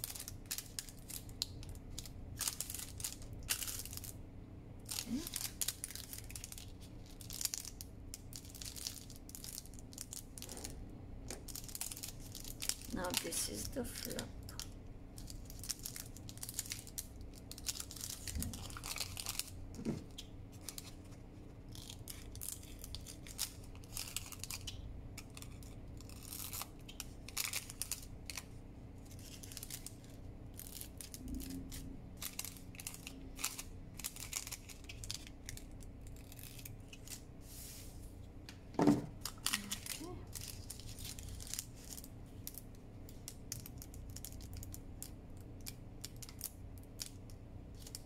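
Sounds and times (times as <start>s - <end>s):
paper crinkling and rustling: 4.9s - 38.0s, 38.9s - 44.8s.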